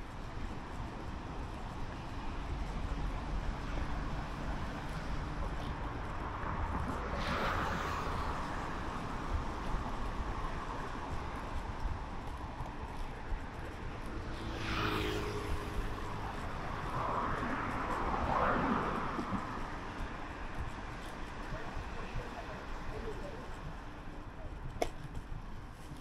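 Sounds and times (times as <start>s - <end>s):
cars passing: 0.0s - 26.0s
low traffic rumble: 0.0s - 26.0s.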